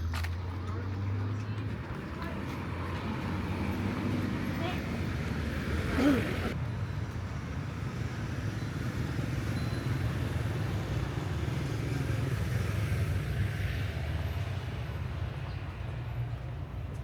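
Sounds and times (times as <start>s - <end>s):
traffic engine drone: 0.0s - 17.0s.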